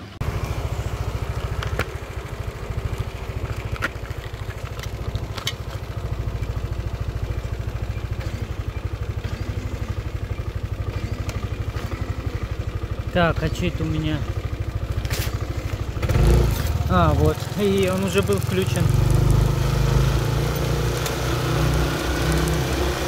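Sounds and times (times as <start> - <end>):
scooter engine idling: 0.0 - 23.0.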